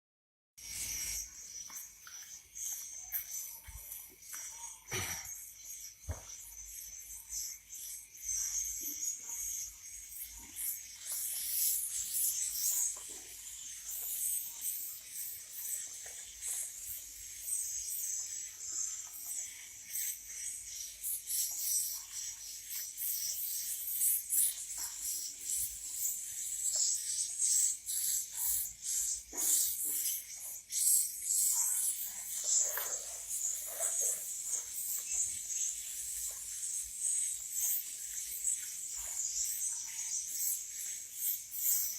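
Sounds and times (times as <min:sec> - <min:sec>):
young birds chirping: 0:00.7 - 0:41.9.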